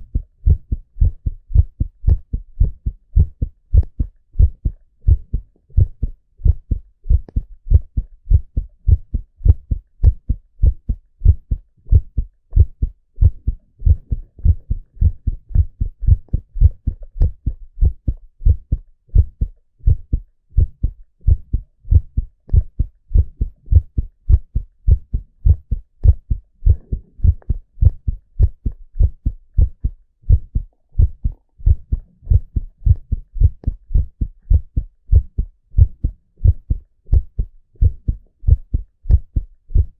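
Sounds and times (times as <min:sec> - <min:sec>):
heartbeat thuds: 0:00.0 - 0:39.9.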